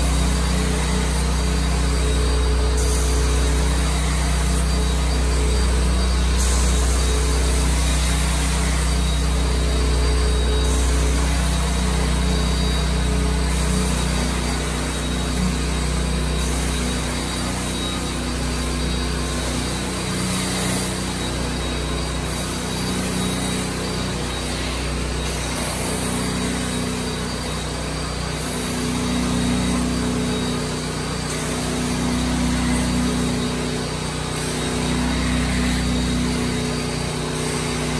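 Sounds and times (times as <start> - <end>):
carpet cleaning machine humming: 0.0 - 37.9.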